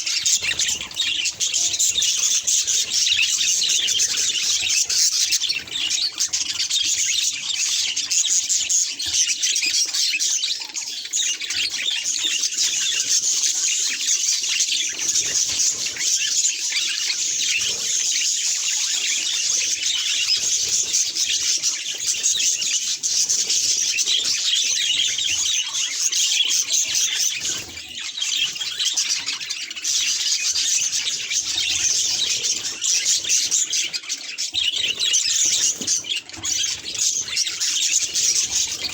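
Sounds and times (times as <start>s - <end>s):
budgerigars chattering and warbling: 0.0s - 38.9s.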